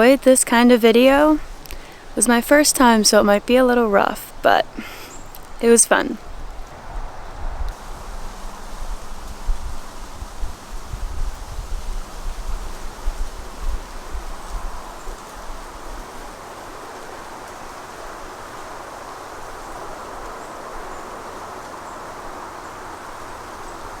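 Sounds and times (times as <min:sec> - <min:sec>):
wind buffeting microphone: 0:00.0 - 0:24.0
wind rustling in trees: 0:00.0 - 0:24.0.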